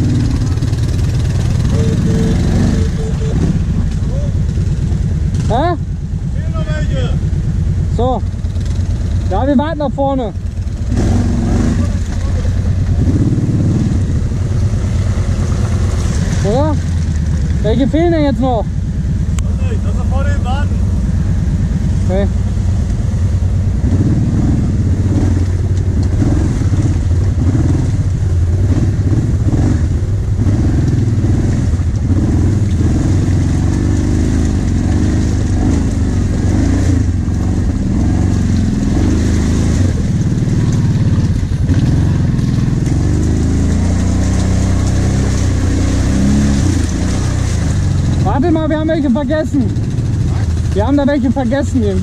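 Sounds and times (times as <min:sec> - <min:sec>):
atv engine revving: 0:00.0 - 0:52.0.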